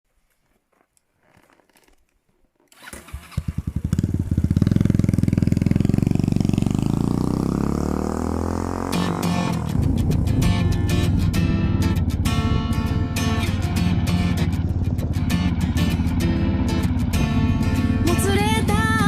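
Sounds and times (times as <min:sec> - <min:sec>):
motorcycle engine starting and idling: 0:01.2 - 0:19.0.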